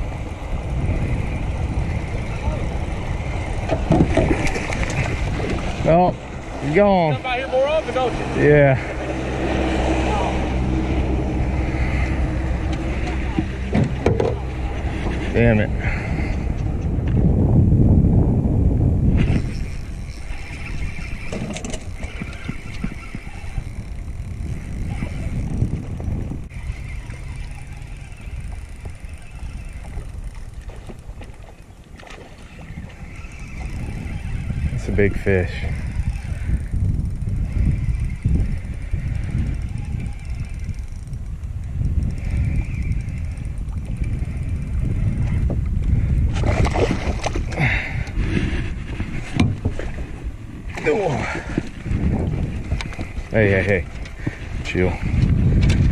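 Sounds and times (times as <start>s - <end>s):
fishing reel whirring: 0.0s - 17.0s, 19.0s - 55.9s
steady low rumble: 0.0s - 32.0s, 32.7s - 50.8s
wind on microphone: 0.0s - 55.9s.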